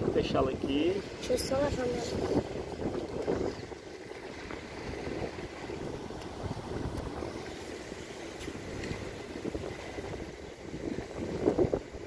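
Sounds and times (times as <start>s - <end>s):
moving water: 0.0s - 12.0s
wind buffeting microphone: 0.0s - 12.0s.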